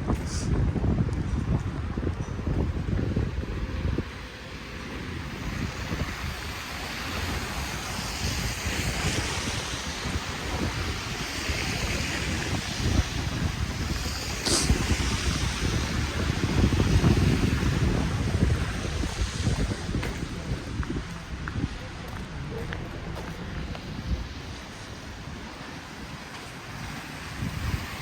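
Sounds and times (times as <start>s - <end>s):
outdoor street ambience hiss: 0.0s - 28.0s
wind buffeting microphone: 0.0s - 28.0s.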